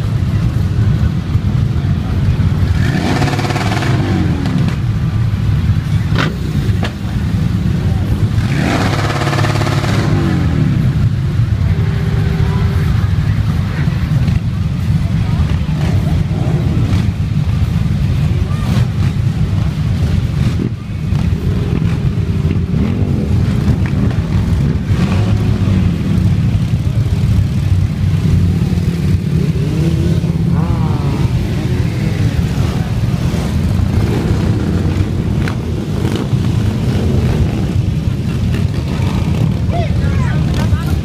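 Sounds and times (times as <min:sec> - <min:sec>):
motorcycles riding past: 0:00.0 - 0:41.0.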